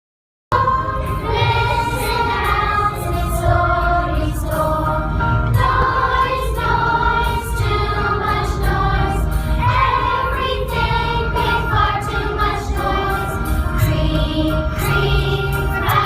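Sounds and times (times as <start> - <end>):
choir singing held notes: 0.5 - 16.0.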